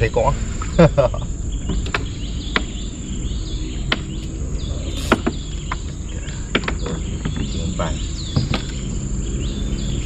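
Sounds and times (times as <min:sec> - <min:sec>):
crickets droning: 0:00.0 - 0:10.0
low rumble: 0:00.0 - 0:10.0.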